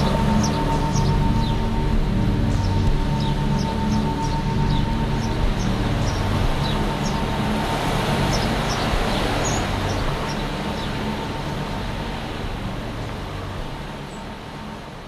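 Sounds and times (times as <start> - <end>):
low hum: 0.0 - 15.0
steady rushing noise: 0.0 - 15.0.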